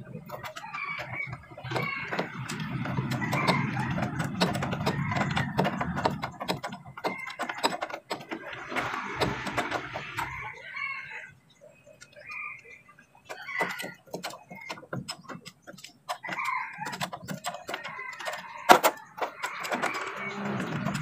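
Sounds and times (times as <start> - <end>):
hand tools clicking on steel: 0.2 - 10.4, 13.3 - 21.0.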